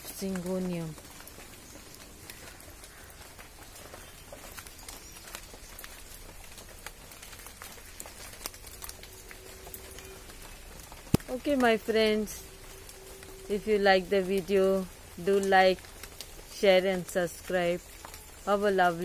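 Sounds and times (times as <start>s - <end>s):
rainwater dripping on leaves: 0.0s - 19.0s
soft steady hiss: 0.0s - 19.0s.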